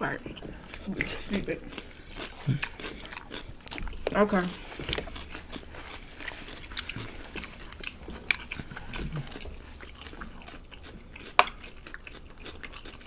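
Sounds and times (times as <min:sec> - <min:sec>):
chewing and biting food: 0:00.0 - 0:13.0
sharp clicks and crunches: 0:00.0 - 0:13.0.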